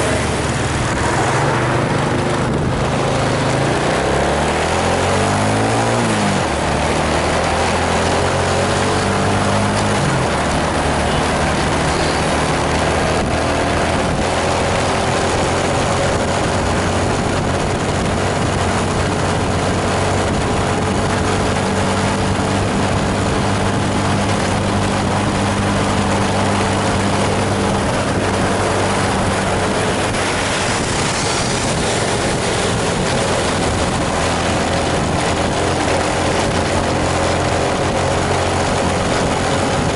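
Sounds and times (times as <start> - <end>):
bus diesel engine running: 0.0 - 39.9
rain on wet road: 0.0 - 39.9.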